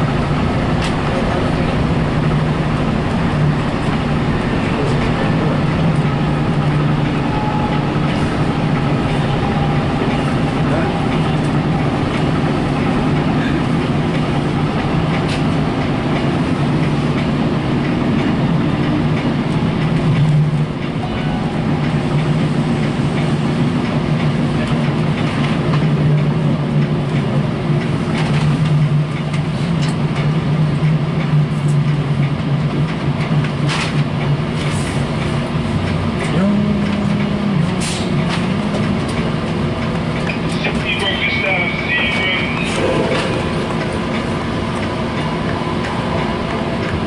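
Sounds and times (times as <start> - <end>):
train rumble and hum: 0.0 - 47.0.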